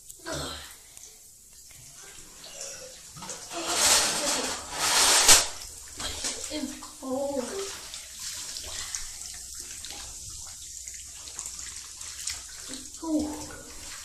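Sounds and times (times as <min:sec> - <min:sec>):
bath water sloshing and splashing: 0:00.0 - 0:14.0.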